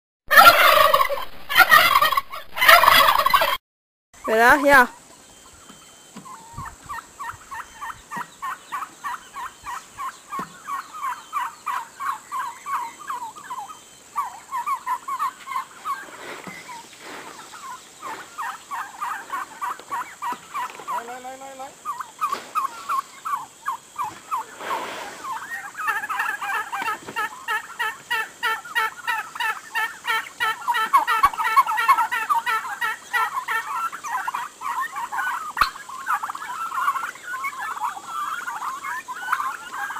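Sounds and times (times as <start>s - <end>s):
turkey poults calling: 0.3s - 3.6s, 4.2s - 39.9s.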